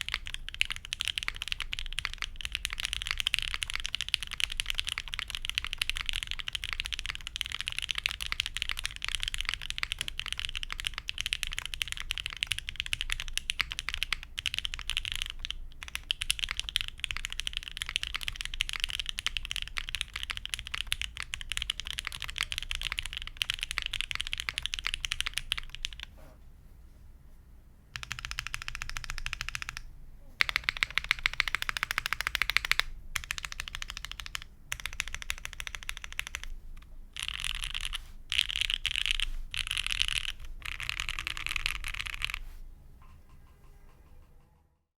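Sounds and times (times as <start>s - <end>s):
mechanical keyboard typing: 0.0s - 26.1s, 28.0s - 44.3s.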